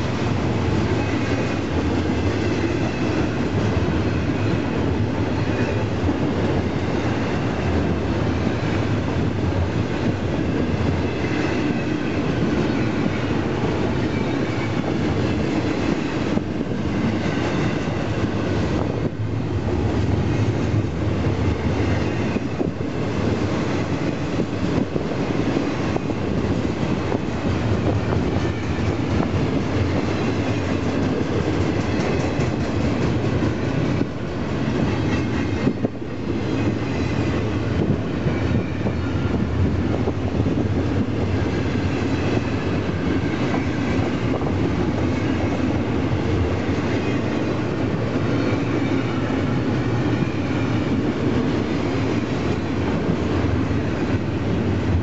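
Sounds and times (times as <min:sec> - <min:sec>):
train wheels rumbling and clattering: 0:00.0 - 0:55.0.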